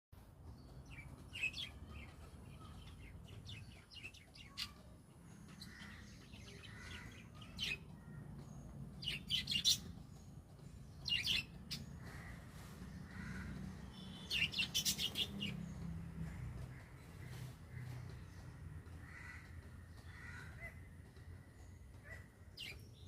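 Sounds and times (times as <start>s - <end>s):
birds chirping: 0.4s - 23.0s.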